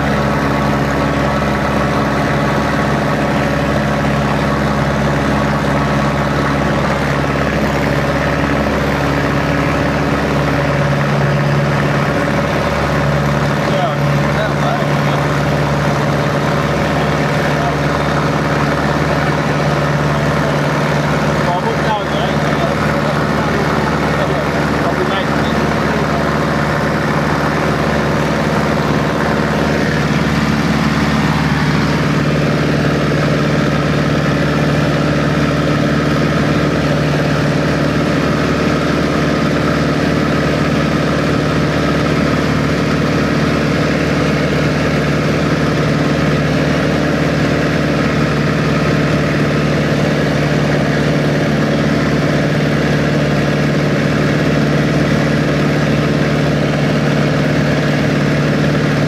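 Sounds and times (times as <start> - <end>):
propeller aircraft engine droning: 0.0 - 59.0
slipstream rush: 0.0 - 59.0.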